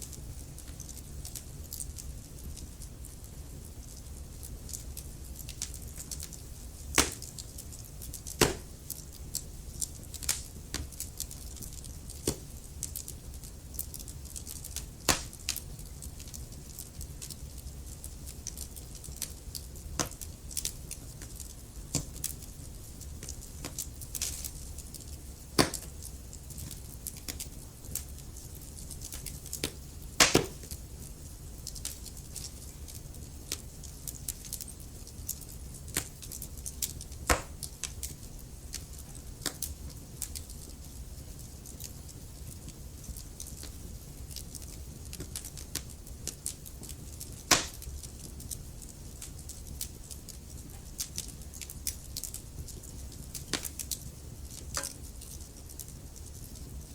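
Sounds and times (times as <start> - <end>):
wood fire crackling: 0.0 - 56.9
sharp fire pops: 4.4 - 17.4, 18.0 - 22.5, 23.2 - 30.8, 31.6 - 40.8, 41.4 - 56.6.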